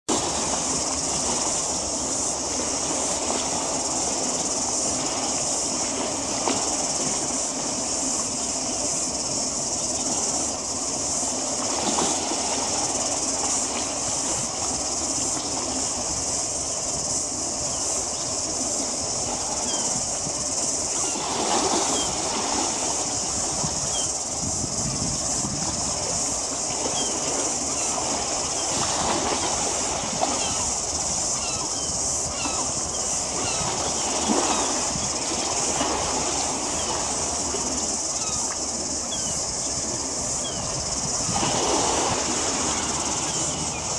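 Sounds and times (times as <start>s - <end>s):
high-pitched hiss: 0.1s - 43.9s.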